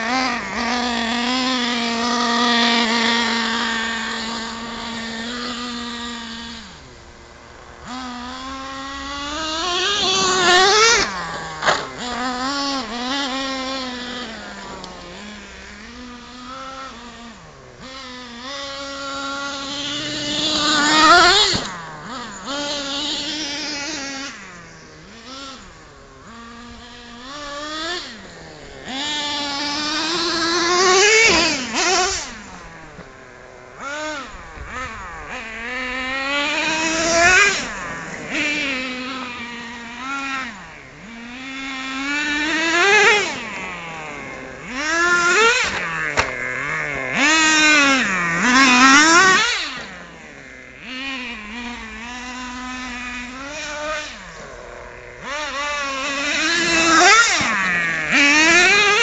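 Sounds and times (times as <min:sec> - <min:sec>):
rc truck engine revving: 0:00.0 - 0:59.0.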